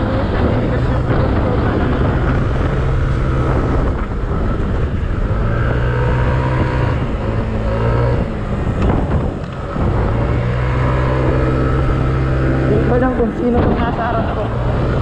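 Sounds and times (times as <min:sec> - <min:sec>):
road and wind noise: 0:00.0 - 0:15.0
scooter engine running: 0:00.0 - 0:15.0.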